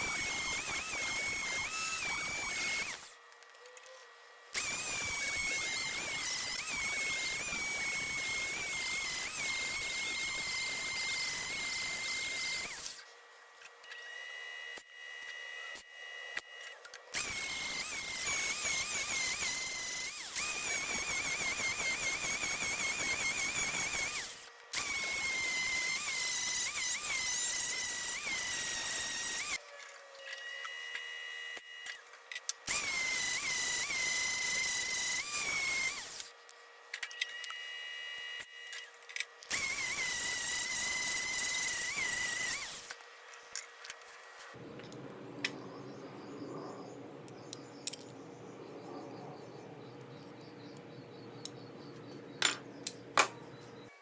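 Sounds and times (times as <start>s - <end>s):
power tool motor whine: 0.0s - 3.3s, 4.5s - 54.0s.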